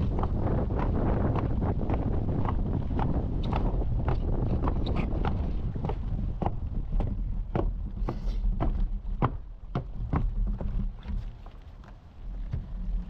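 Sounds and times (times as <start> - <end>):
bicycle tyres rumbling on gravel: 0.0 - 13.0
wind on microphone: 0.0 - 13.0.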